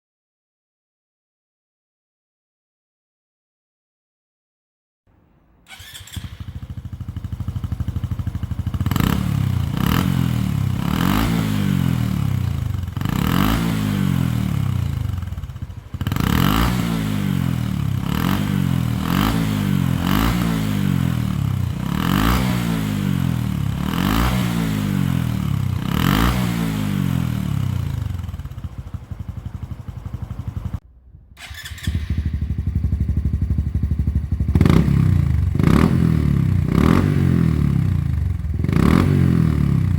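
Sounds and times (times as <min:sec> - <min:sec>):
motorcycle engine revving: 0:05.7 - 0:30.8, 0:31.4 - 0:39.9.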